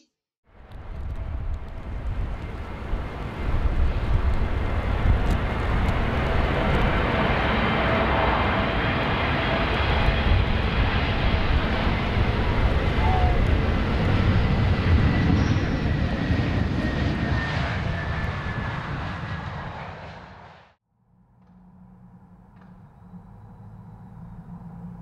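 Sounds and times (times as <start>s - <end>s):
jet airliner landing: 0.5s - 20.8s.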